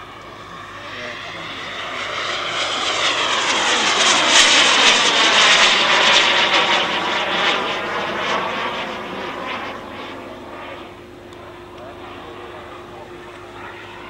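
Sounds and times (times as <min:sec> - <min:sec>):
model jet flying past: 0:00.0 - 0:14.0.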